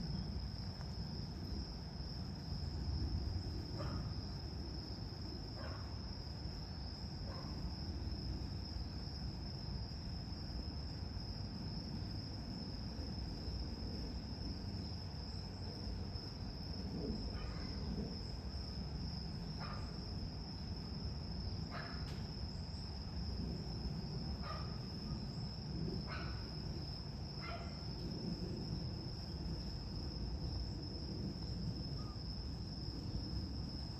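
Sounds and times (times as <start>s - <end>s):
insects droning: 0.0s - 33.9s.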